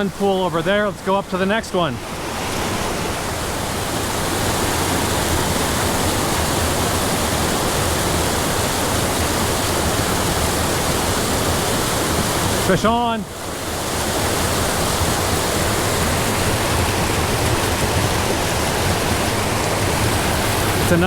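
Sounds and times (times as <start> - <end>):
creek water rushing over waterfalls: 0.0 - 21.0.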